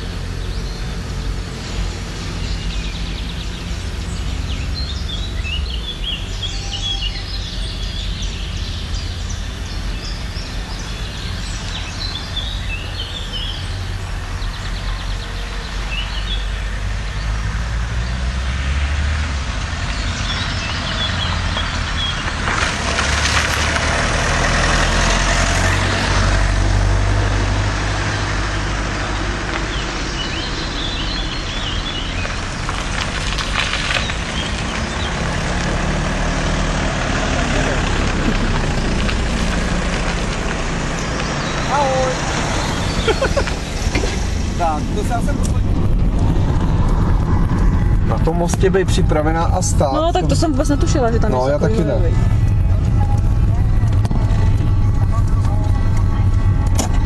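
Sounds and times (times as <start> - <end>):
low engine rumble: 0.0 - 57.0
songbirds chirping: 0.0 - 57.0
rush of noise: 8.5 - 57.0.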